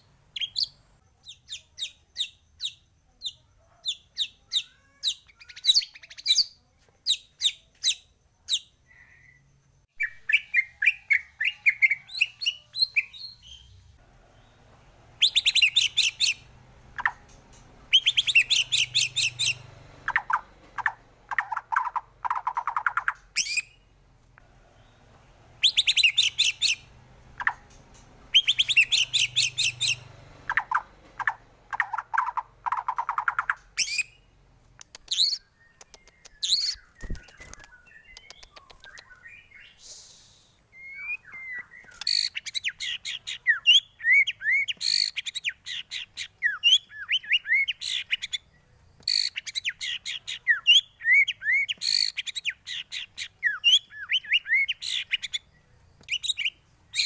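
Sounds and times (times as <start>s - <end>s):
bird song with trills and whistles: 0.0s - 23.9s, 24.8s - 34.3s, 34.9s - 57.0s.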